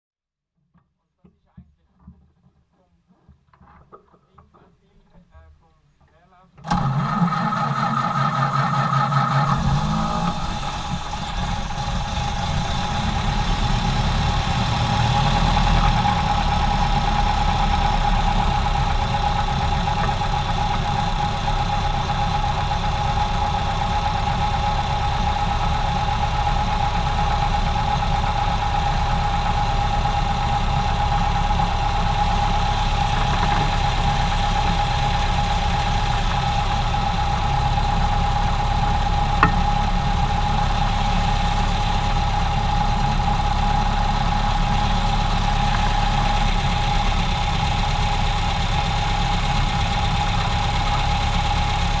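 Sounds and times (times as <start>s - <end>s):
engine running roughly with misfires: 6.7s - 52.0s
exhaust popping: 9.4s - 52.0s.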